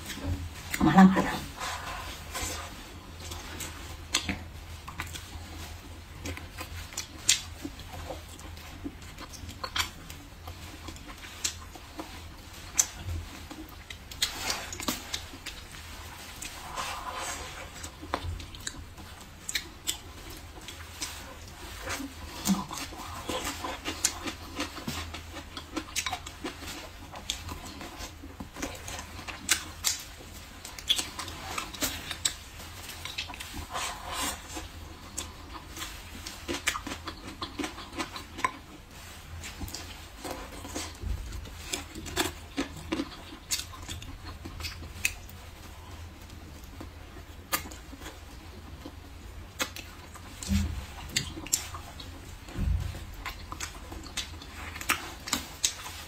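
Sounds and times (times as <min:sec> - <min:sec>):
close chewing and mouth sounds: 0:00.0 - 0:56.0.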